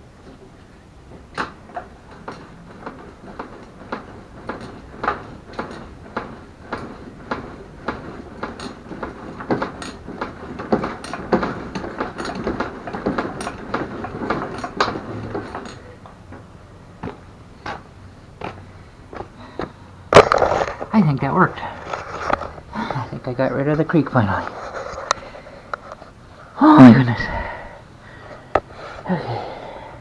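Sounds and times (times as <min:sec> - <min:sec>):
hard objects clattering: 0:01.1 - 0:26.2.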